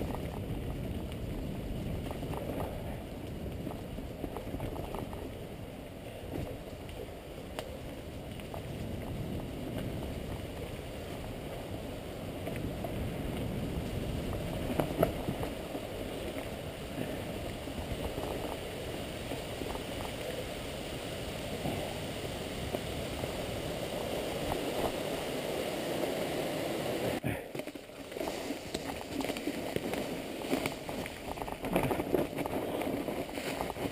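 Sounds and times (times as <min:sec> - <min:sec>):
bike rattling over bumps: 0:00.0 - 0:25.1, 0:27.5 - 0:33.9
bike tyres and air rushing: 0:00.0 - 0:27.2.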